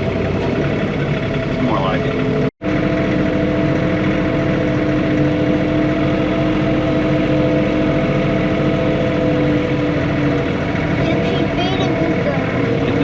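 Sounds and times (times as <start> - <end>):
tractor diesel engine humming: 0.0 - 13.0.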